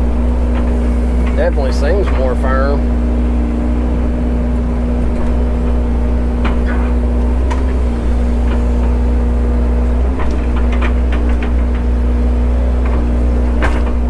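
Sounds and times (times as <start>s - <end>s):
bucket linkage rattling knocks: 0.0s - 14.0s
excavator diesel engine running: 0.0s - 14.0s.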